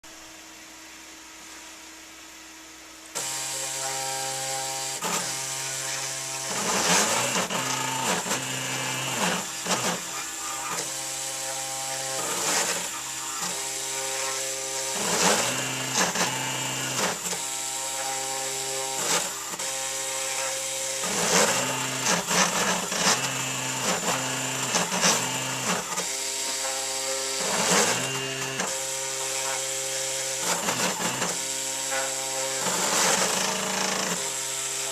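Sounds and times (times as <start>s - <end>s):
cnc motors whining: 3.1s - 34.9s.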